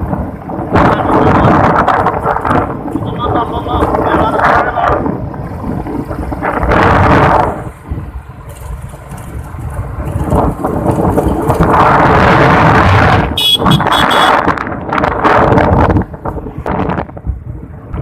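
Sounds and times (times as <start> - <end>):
moving vehicle running noise: 0.0 - 18.0
wind rushing over microphone: 0.0 - 18.0.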